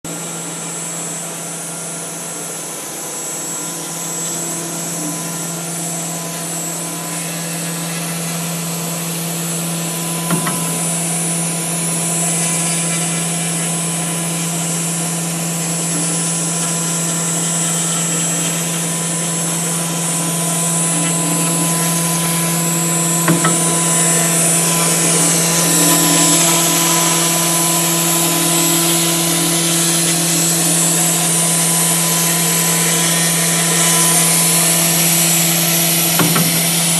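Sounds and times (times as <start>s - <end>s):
cnc router spindle whining: 0.1s - 36.9s.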